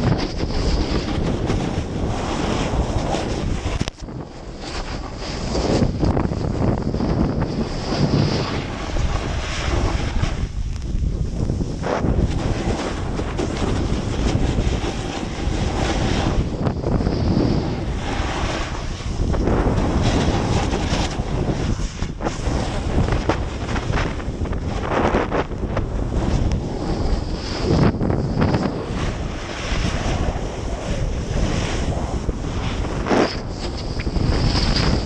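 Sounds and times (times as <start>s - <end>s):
ski edges scraping snow: 0.0s - 35.0s
wind rushing over microphone: 0.0s - 35.0s.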